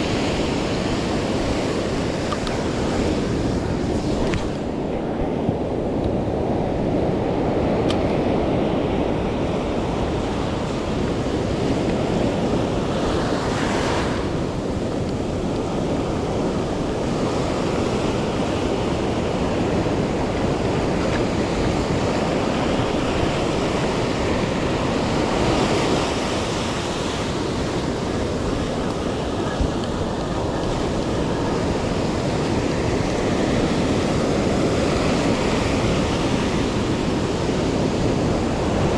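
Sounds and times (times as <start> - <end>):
ocean surf washing onto beach: 0.0 - 38.9
wind buffeting microphone: 0.0 - 38.9.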